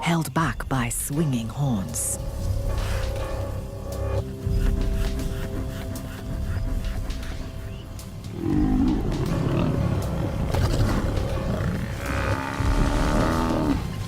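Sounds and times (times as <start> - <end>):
background music: 0.0 - 14.0
lions growling and snarling: 2.2 - 14.0.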